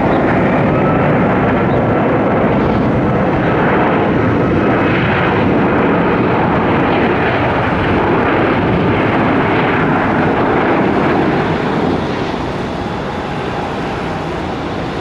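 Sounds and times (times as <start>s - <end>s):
jet engines of landing airliner: 0.0s - 15.0s.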